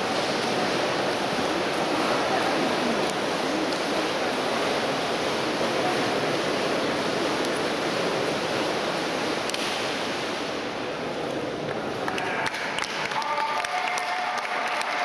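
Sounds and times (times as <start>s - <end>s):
pool hall hubbub: 0.0s - 15.0s
water splashing and churning: 0.0s - 15.0s.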